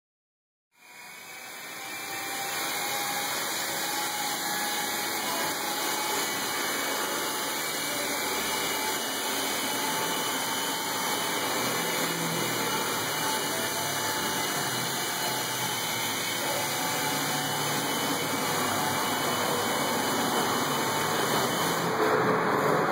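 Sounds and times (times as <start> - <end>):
toy helicopter rotor whirring: 0.8 - 22.1.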